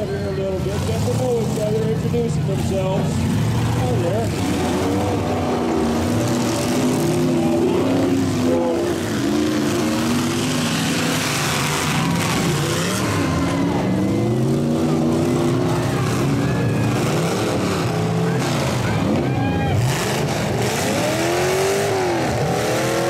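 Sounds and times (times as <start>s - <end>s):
truck engines revving: 0.0s - 23.0s.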